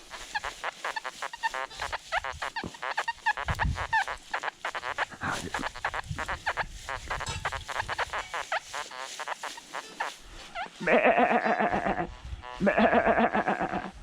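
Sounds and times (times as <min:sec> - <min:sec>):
geese honking: 0:00.0 - 0:13.9.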